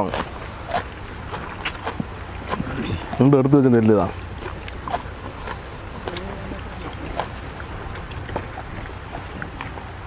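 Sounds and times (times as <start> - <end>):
hands eating clicks and rustles: 0.0 - 10.0
wind rumble on microphone: 0.0 - 10.0.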